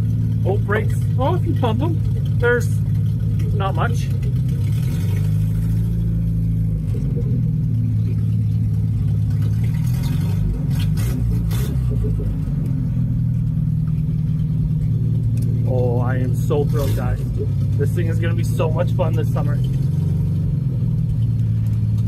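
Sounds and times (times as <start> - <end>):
pickup engine droning: 0.0 - 22.0.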